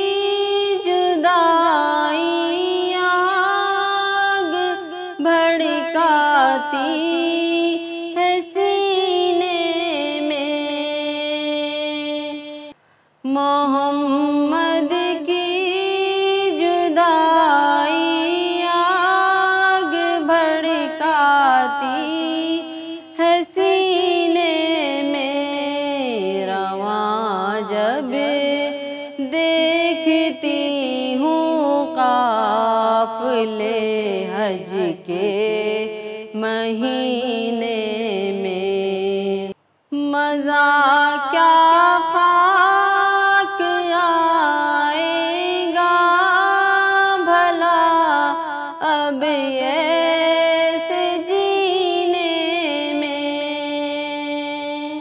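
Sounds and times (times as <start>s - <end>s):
woman singing unaccompanied: 0.0s - 55.0s.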